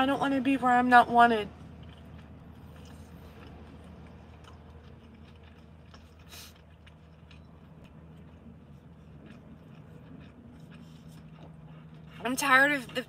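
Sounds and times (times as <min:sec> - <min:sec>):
low car cabin hum: 0:00.0 - 0:13.0
quiet chewing: 0:01.5 - 0:13.0.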